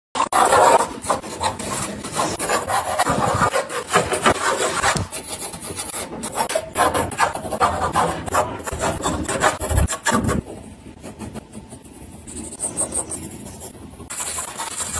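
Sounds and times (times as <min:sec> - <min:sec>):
pencil scratching on paper: 0:00.2 - 0:14.9.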